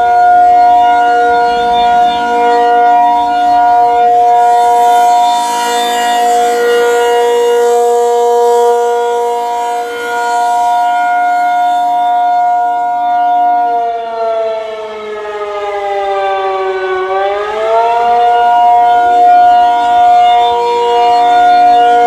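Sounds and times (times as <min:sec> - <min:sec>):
tornado siren two-note chord: 0:00.0 - 0:22.0.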